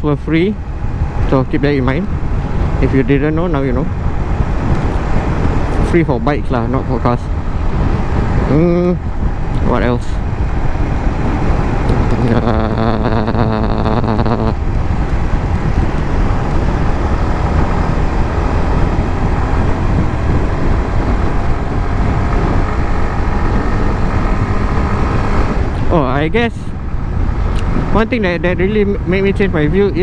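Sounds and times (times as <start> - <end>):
pitched drone: 0.0 - 27.4
motorcycle engine rumble: 0.0 - 30.0
wind noise: 0.0 - 30.0.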